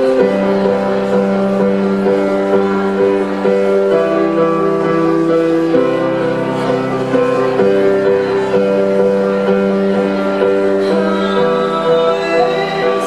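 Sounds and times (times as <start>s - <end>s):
keyboard playing held chords: 0.0s - 13.0s.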